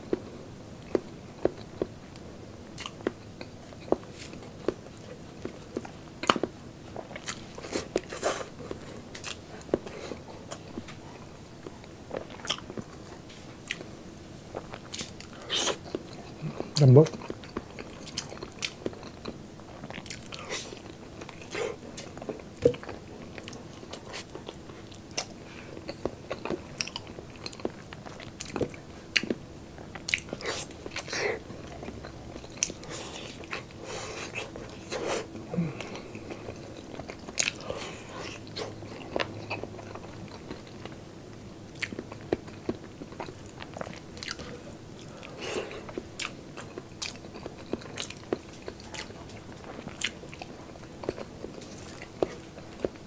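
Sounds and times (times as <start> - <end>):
wet chewing with mouth clicks: 2.8 - 13.9, 14.5 - 41.0, 41.7 - 53.0.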